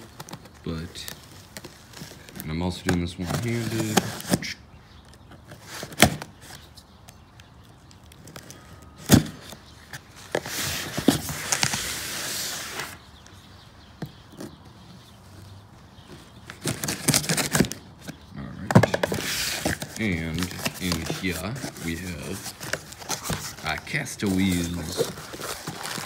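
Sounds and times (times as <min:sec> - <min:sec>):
cardboard crackling: 0:00.0 - 0:04.6, 0:05.2 - 0:15.1, 0:16.0 - 0:26.0.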